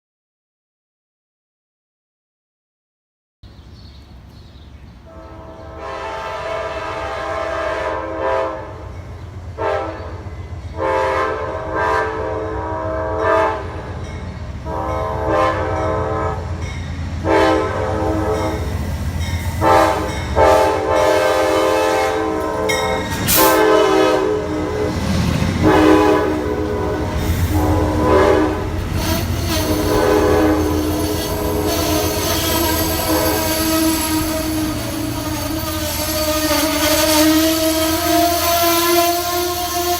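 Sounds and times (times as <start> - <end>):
train rumble: 3.6 - 39.9
train horn blasts: 5.0 - 18.9, 19.5 - 39.9.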